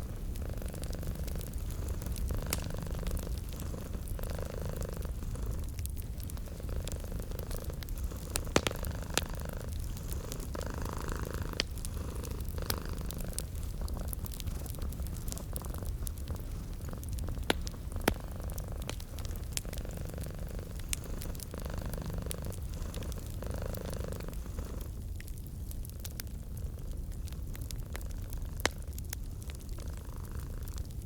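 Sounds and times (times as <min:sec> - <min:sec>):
cat purring: 0:00.0 - 0:31.0
fireplace crackling: 0:00.0 - 0:31.0.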